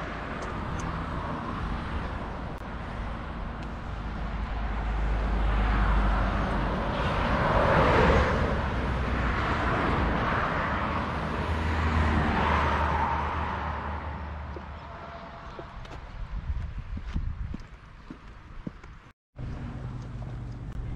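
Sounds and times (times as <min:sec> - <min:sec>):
cars passing: 0:00.0 - 0:17.0
low traffic rumble: 0:00.0 - 0:20.9.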